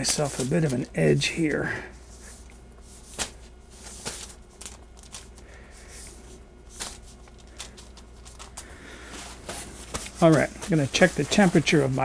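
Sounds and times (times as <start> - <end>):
parchment paper rustling: 0.0 - 12.0.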